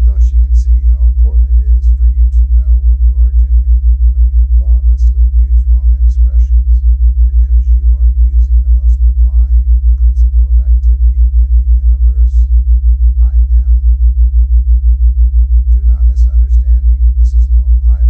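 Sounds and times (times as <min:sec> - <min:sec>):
faint voice speaking quietly: 0:00.0 - 0:12.4, 0:13.2 - 0:13.8, 0:15.7 - 0:18.0
low pulsing tone: 0:00.0 - 0:18.0.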